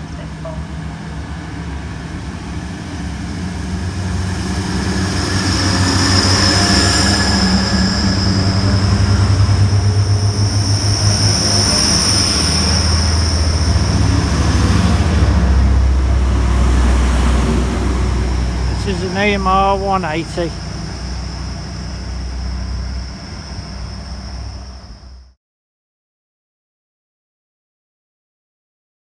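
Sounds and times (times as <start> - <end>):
diesel train engine hum: 0.0 - 25.4
high-pitched squeal: 0.0 - 25.4.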